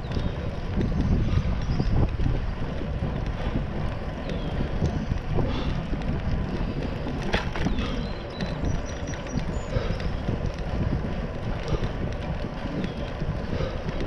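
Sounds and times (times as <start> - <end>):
tyre noise on pavement: 0.0 - 14.0
wind buffeting microphone: 0.0 - 14.0.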